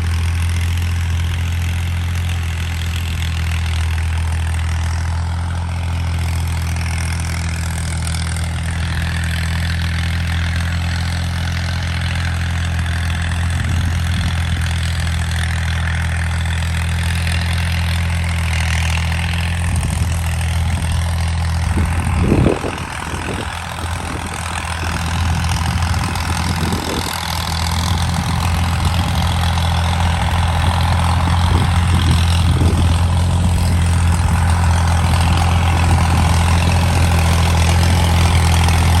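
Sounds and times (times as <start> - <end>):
engine knocks: 0.0 - 39.0
tractor diesel engine running: 0.0 - 39.0.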